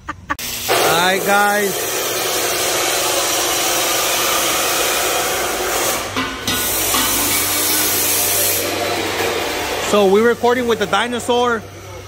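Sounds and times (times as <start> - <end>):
large fan rushing air: 0.2 - 12.0.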